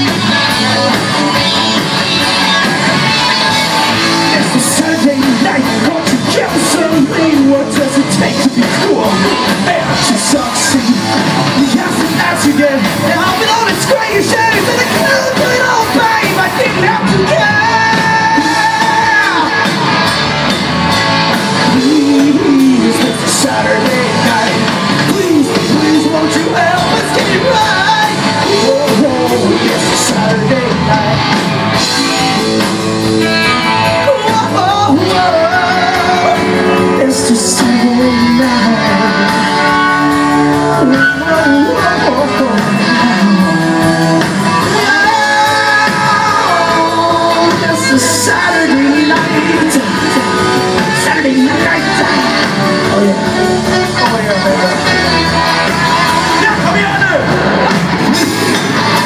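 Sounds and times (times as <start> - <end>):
man singing: 0.0 - 20.0, 21.3 - 59.0
live rock band playing: 0.0 - 59.0.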